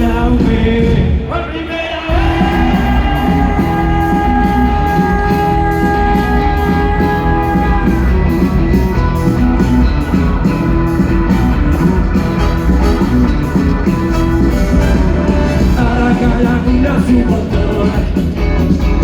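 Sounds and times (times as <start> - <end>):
rock band playing live: 0.0 - 1.5, 2.1 - 19.0.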